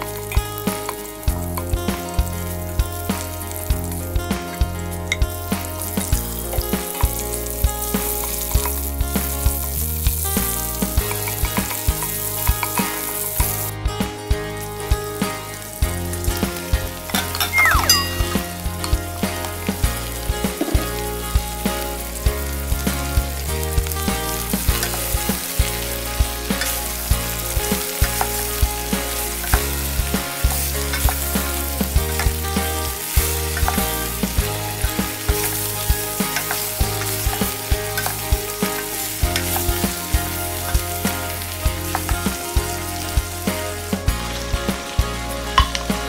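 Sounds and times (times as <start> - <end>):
background music with beat: 0.0 - 46.0
meat and onions sizzling: 0.0 - 46.0.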